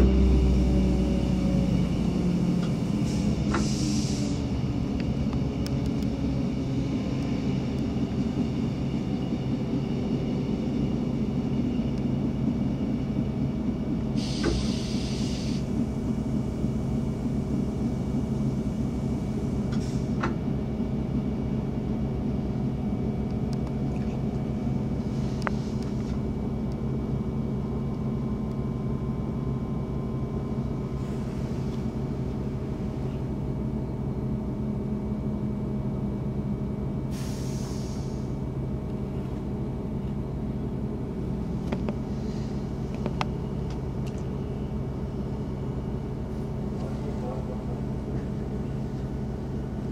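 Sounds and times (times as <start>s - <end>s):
train drone inside carriage: 0.0s - 49.9s.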